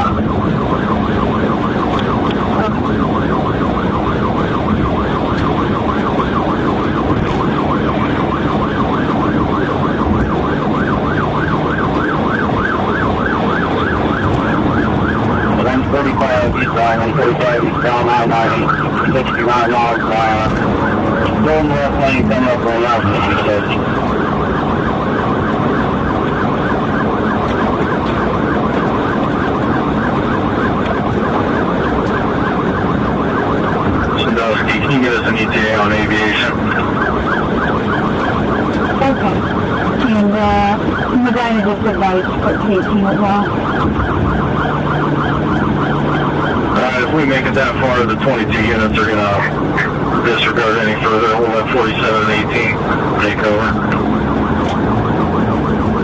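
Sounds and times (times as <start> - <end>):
car engine and road noise: 0.0 - 56.0
police siren yelping: 0.0 - 56.0.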